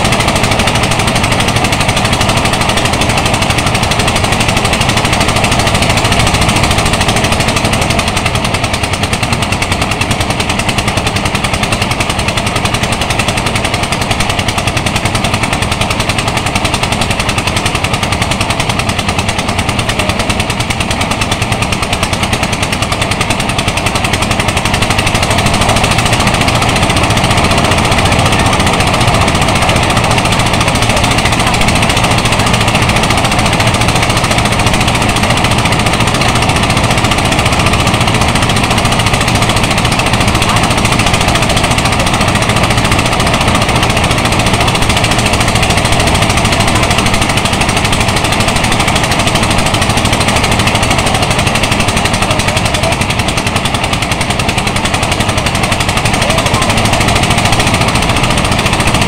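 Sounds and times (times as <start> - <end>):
rice thresher running: 0.0 - 59.0.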